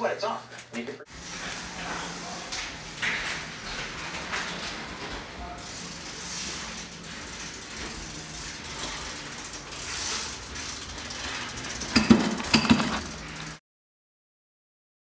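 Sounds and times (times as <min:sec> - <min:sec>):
bicycle freewheel ticking: 0:01.2 - 0:13.6.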